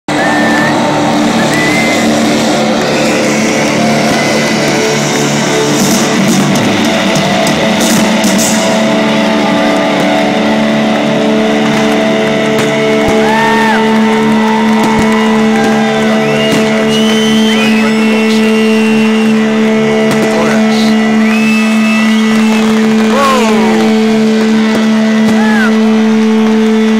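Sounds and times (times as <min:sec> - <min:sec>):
held electric guitar notes: 0:00.1 - 0:26.9
loud live rock music: 0:00.1 - 0:26.9.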